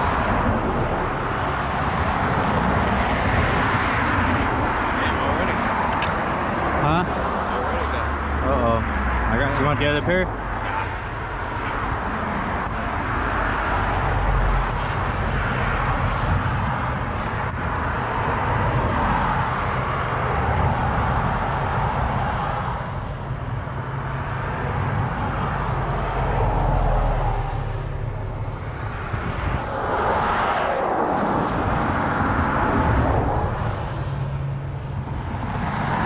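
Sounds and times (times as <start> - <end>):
motor vehicle rumble: 0.0 - 36.0.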